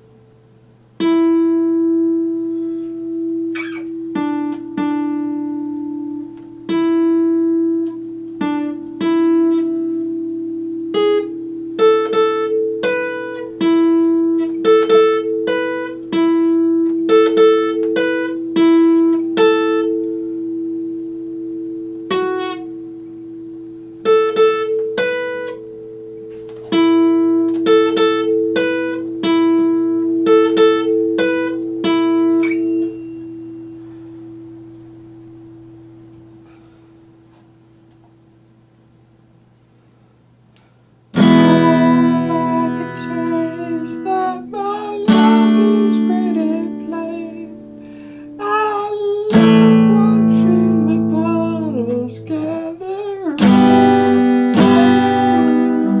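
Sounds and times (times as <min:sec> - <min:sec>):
acoustic guitar plucked: 0:00.0 - 0:37.4, 0:41.1 - 0:56.0.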